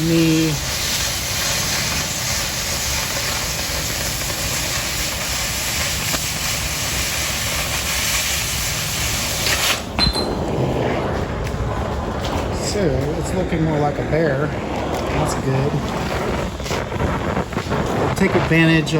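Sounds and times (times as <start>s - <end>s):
cutting torch hissing: 0.0s - 18.9s.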